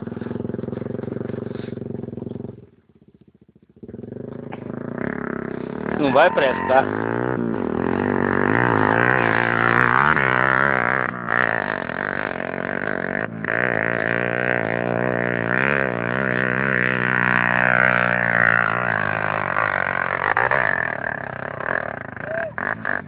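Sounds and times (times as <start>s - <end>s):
motorcycle engine revving uphill: 0.0s - 23.0s.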